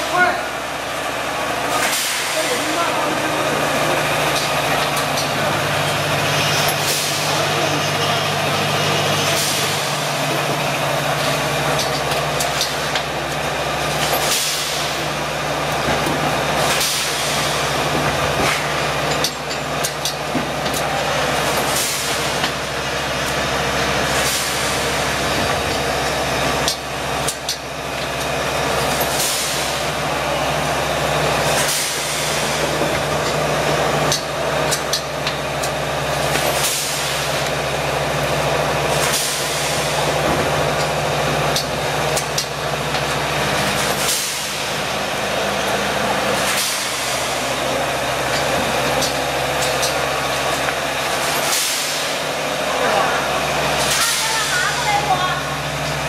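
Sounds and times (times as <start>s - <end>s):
filling machine humming: 0.0s - 56.0s.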